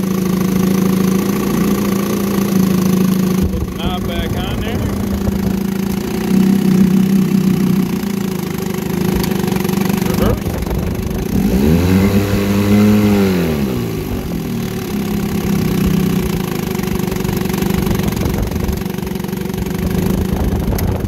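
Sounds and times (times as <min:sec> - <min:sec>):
outboard motor running: 0:00.0 - 0:21.0
propeller churning water: 0:00.0 - 0:21.0.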